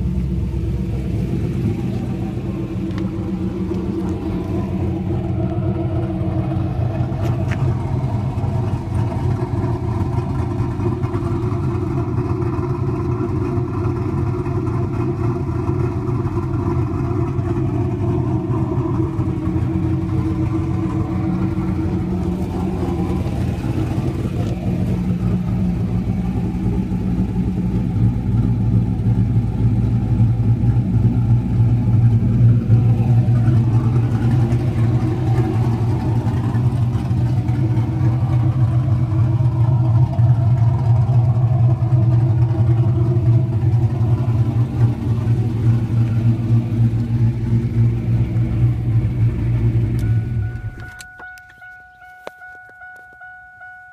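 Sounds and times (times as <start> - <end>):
car engine idling: 0.0 - 53.9
faint steady tones: 0.0 - 53.9.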